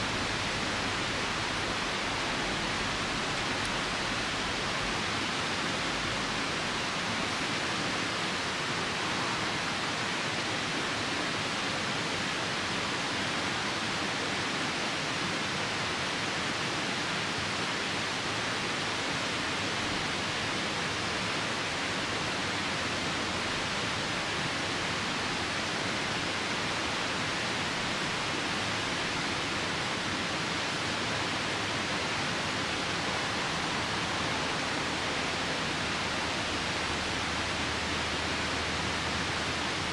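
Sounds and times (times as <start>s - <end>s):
rain falling: 0.0s - 11.1s, 16.6s - 39.9s
river rushing: 0.0s - 39.9s.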